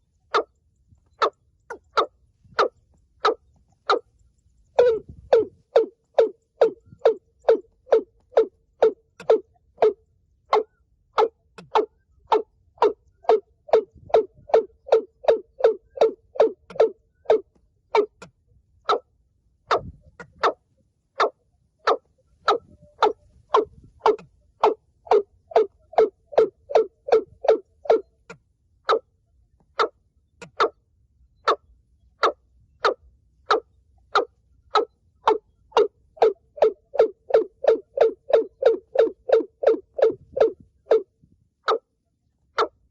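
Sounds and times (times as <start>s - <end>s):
bird hollow repeated calls: 0.0s - 42.9s.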